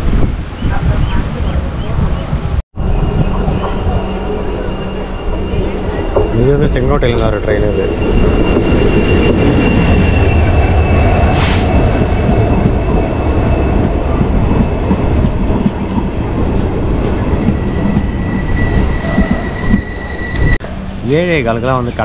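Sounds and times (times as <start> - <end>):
train rumbling by: 0.0 - 22.0
high wheel squeal: 2.8 - 22.0.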